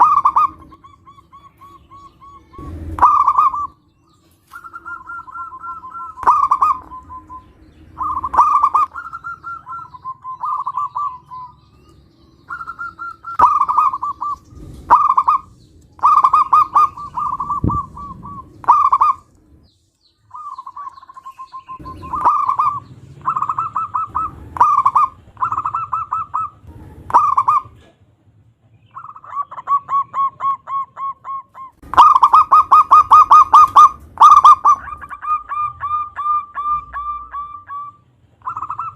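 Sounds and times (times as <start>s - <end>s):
dove cooing: 0.0s - 19.7s, 20.3s - 28.0s, 28.9s - 38.9s.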